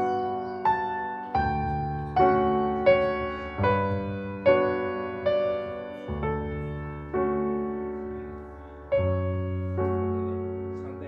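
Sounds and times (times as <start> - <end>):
slow gentle piano chords: 0.0 - 11.0.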